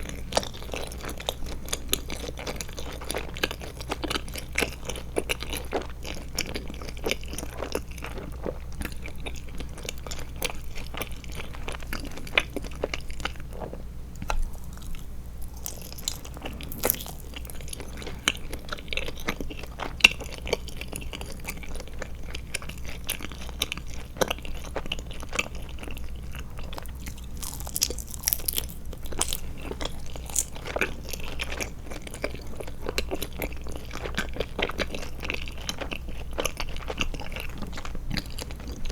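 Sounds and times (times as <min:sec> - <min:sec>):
chewing gummy candy: 0:00.0 - 0:38.9
faint low hum: 0:00.0 - 0:38.9.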